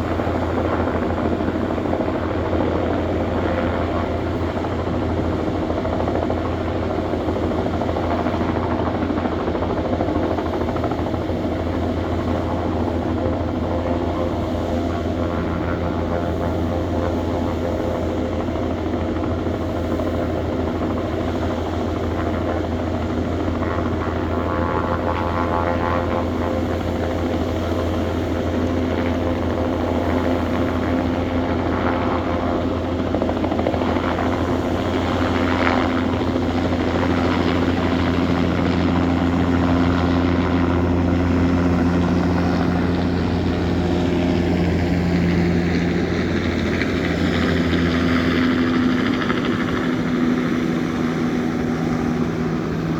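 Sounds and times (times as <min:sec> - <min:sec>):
helicopter engine tones: 0:00.0 - 0:52.9
helicopter rotor beat: 0:00.0 - 0:52.9.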